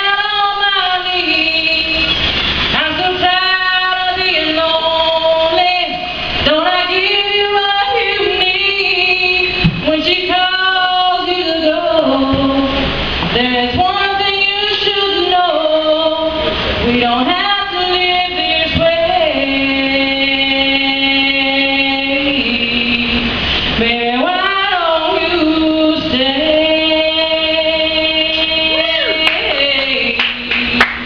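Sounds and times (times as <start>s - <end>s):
woman singing unaccompanied: 0.0s - 2.2s, 2.8s - 31.0s.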